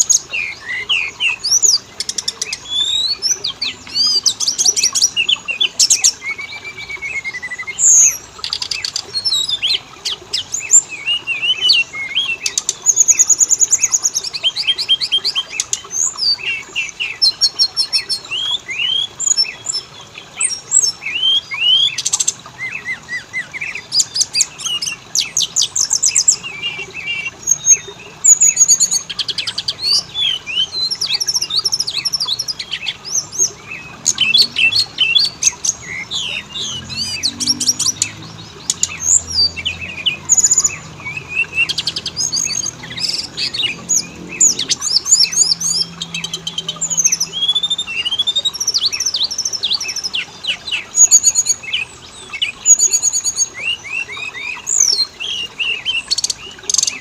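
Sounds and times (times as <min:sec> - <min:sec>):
bird song of chirps and trills: 0:00.0 - 0:57.0.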